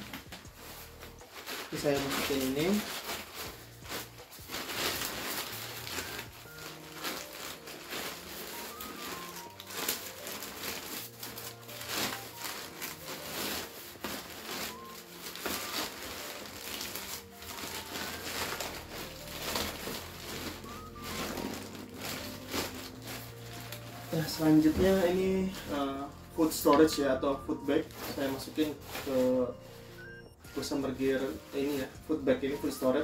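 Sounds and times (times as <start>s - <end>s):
backpack fabric rustling: 0.0s - 33.0s
soft background music: 0.0s - 33.0s.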